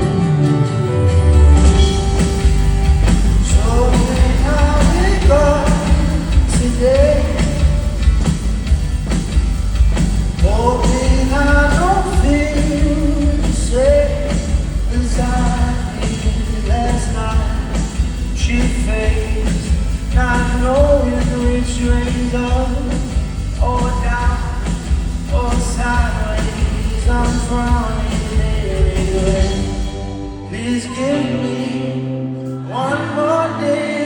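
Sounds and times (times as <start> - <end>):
bass and drum beat: 0.0 - 30.1
live band playing pop-rock: 0.0 - 34.0
man singing: 3.4 - 8.1, 10.4 - 34.0.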